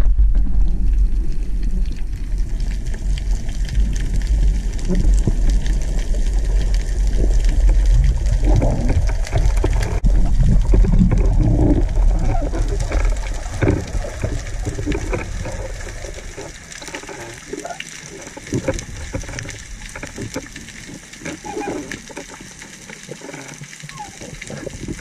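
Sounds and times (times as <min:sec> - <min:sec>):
muffled underwater rumble: 0:00.0 - 0:25.0.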